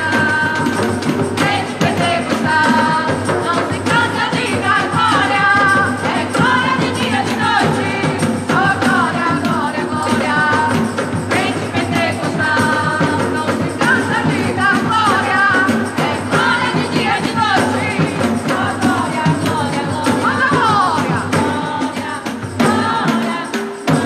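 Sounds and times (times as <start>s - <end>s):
band playing worship song: 0.0s - 24.0s
people singing: 0.0s - 24.0s
steady drum beat: 0.0s - 24.0s.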